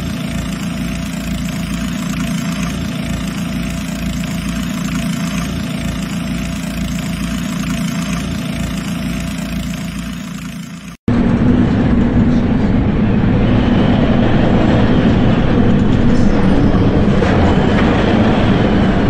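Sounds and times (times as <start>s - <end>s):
water pump engine drone: 0.0s - 19.0s.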